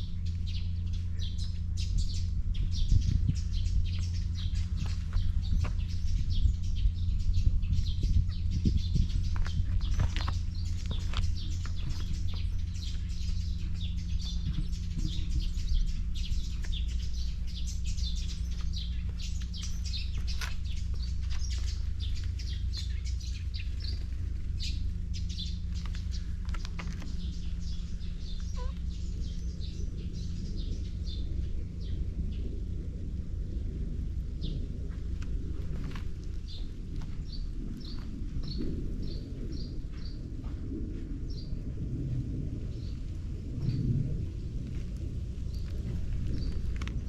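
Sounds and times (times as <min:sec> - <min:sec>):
small birds chirping: 0:00.0 - 0:47.0
steady low rumble: 0:00.0 - 0:47.0.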